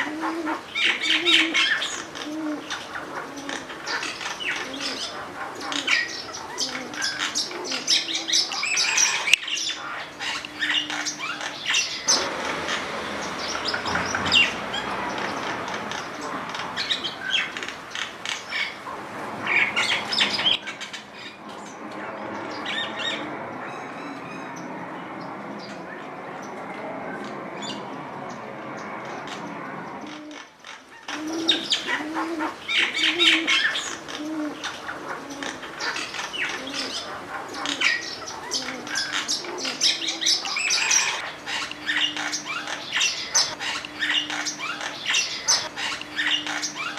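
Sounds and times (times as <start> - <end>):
bird squawks: 0.0 - 46.9
birds chirping: 0.0 - 46.9.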